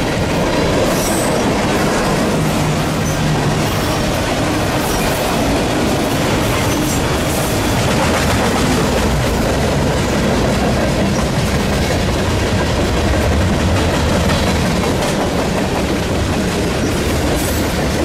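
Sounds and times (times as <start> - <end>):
freight train wheels on rail: 0.0 - 18.0.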